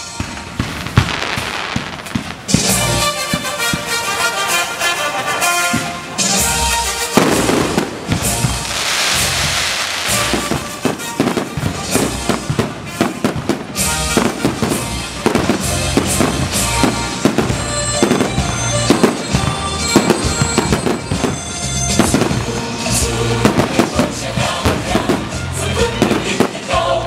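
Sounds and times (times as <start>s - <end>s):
fireworks launching and bursting: 0.0s - 27.0s
music playing: 0.0s - 27.0s.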